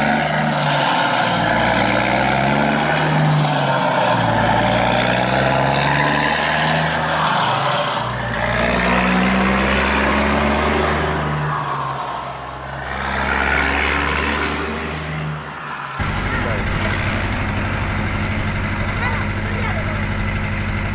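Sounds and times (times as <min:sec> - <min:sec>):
heavy truck engine running: 0:00.0 - 0:20.9.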